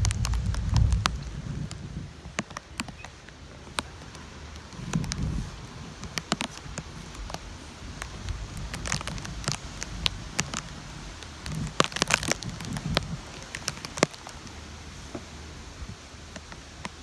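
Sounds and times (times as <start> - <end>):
rain falling: 0.0 - 17.0
raindrops tapping: 0.0 - 17.0
steady low rumble: 0.0 - 17.0.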